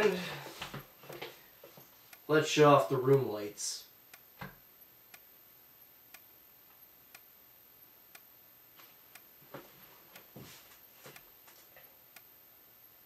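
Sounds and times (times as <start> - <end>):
faint strobe ticks: 0.0 - 13.0.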